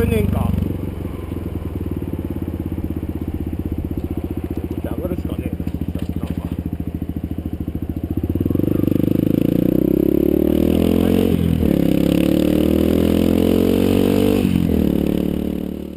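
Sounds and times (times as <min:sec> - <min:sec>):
vehicle engine revving: 0:00.0 - 0:15.9.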